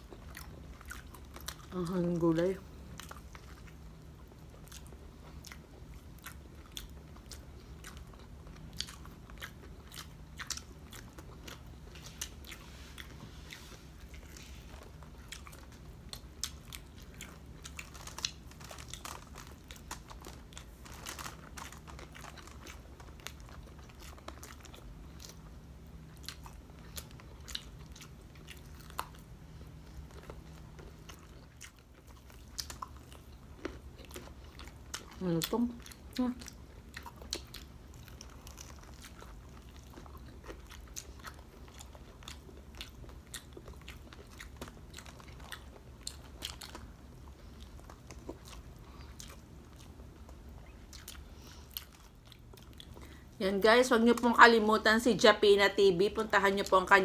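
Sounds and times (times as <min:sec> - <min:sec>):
chewing crispy fried food: 0:00.0 - 0:57.0
faint low hum: 0:00.0 - 0:57.0.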